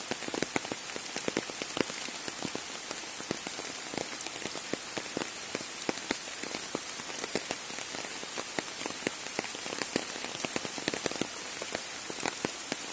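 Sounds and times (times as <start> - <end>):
rain falling on trees: 0.0 - 12.9.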